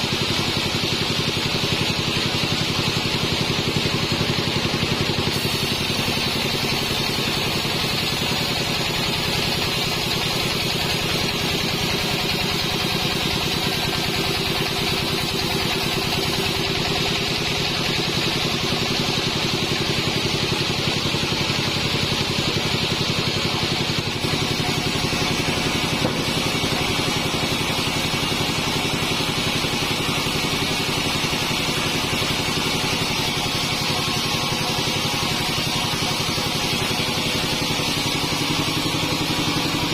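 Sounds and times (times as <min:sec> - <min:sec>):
band saw sawing log: 0:00.0 - 0:39.9.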